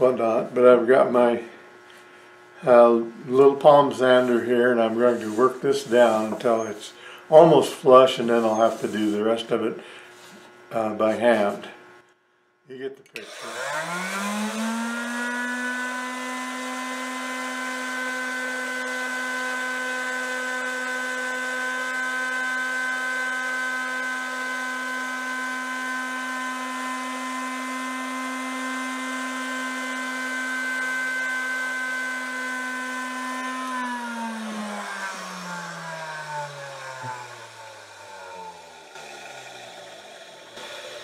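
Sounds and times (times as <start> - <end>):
palm sander whining: 0.0 - 11.9, 13.2 - 41.0.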